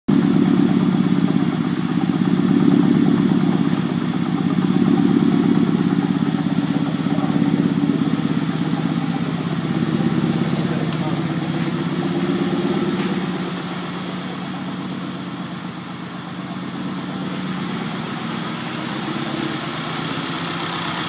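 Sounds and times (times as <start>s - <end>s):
car engine idling: 0.1s - 21.0s.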